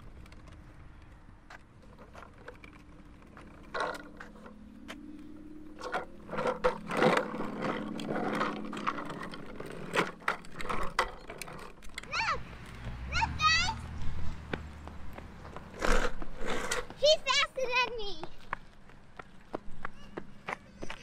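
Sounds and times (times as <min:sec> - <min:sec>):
plastic wheels rolling on asphalt: 0:00.0 - 0:21.0.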